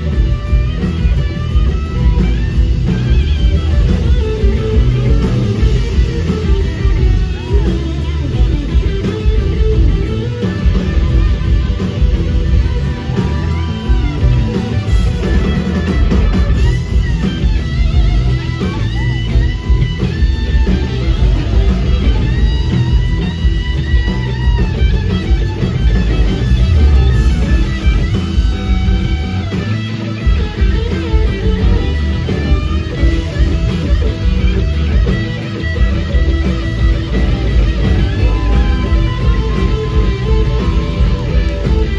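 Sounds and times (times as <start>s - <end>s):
bass guitar: 0.0s - 41.9s
drums: 0.0s - 41.9s
electric guitars: 0.0s - 41.9s.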